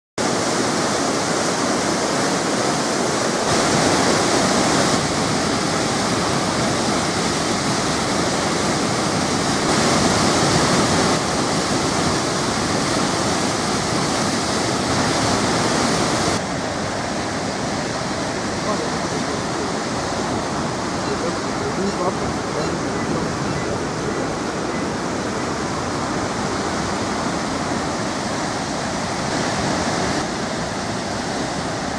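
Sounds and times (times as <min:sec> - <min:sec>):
waterfall roaring: 0:00.2 - 0:31.9.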